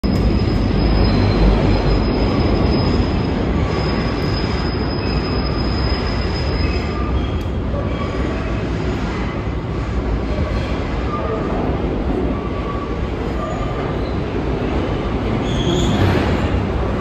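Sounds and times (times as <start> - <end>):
high wheel squeal: 0.0 - 9.6, 10.2 - 14.6, 15.3 - 16.9
train cars rumbling: 0.0 - 17.0.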